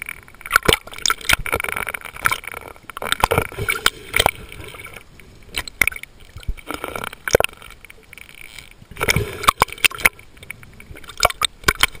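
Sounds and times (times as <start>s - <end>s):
sharp underwater clicks: 0.0s - 12.0s
underwater bubbles gurgling: 0.0s - 12.0s.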